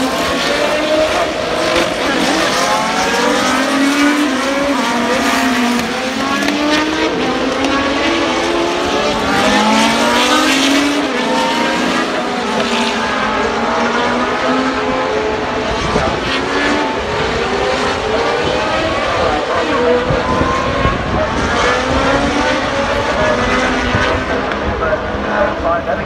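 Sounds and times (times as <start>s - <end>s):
race car engines accelerating: 0.0s - 26.0s.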